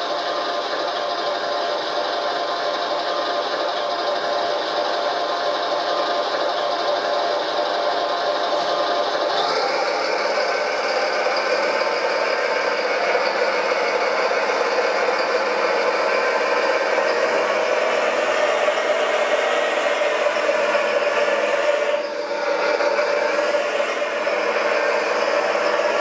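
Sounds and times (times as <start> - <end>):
electric motors and hydraulic pump whining: 0.0 - 26.0.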